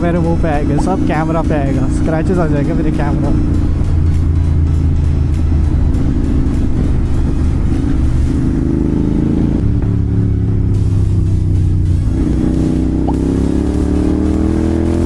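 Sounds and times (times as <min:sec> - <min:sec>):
motorcycle engine while riding: 0:00.0 - 0:15.0.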